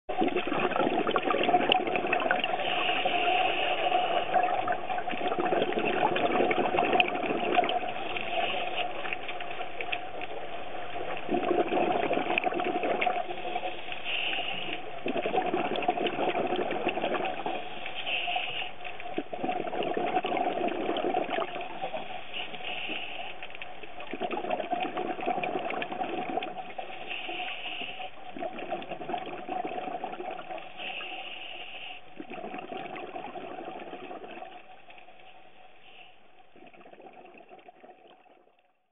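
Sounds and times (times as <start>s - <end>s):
underwater watery rush: 0.1s - 38.5s
diver regulator bubbling: 0.1s - 38.9s.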